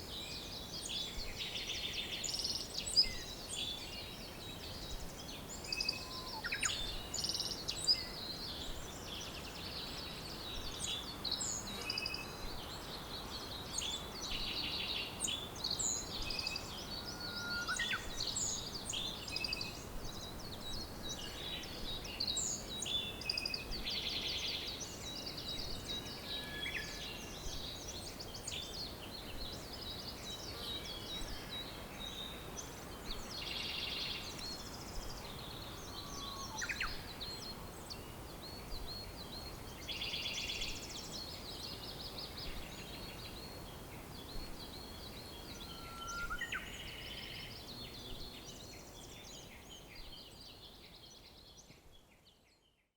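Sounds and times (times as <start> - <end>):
steady background hiss: 0.0 - 52.5
songbirds singing: 0.0 - 52.9.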